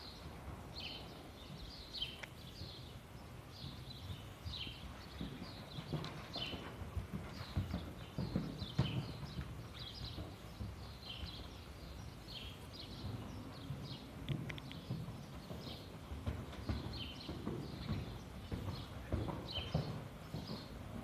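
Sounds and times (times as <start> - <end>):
small birds chirping: 0.0 - 21.0
horse hoofbeats on sand: 0.1 - 21.0.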